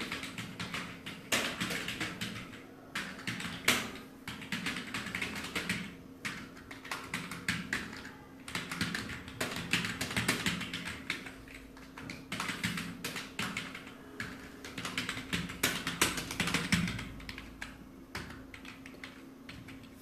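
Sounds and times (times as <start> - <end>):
fast typing on keyboard: 0.0 - 20.0.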